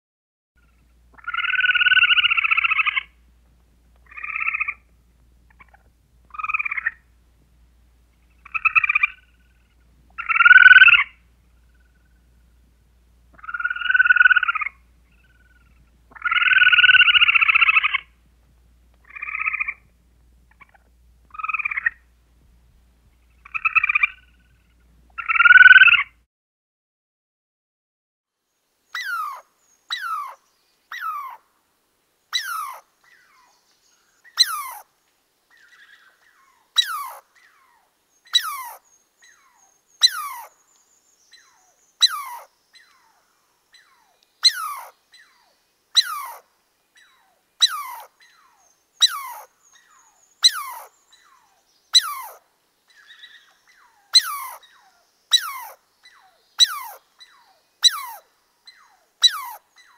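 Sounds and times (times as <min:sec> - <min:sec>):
high chirping calls: 0:00.6 - 0:03.2, 0:04.0 - 0:04.9, 0:05.5 - 0:07.1, 0:08.1 - 0:12.5, 0:13.3 - 0:18.1, 0:19.0 - 0:19.9, 0:20.5 - 0:22.1, 0:23.2 - 0:26.1, 0:28.9 - 0:31.4, 0:32.3 - 0:34.9, 0:35.5 - 0:59.9.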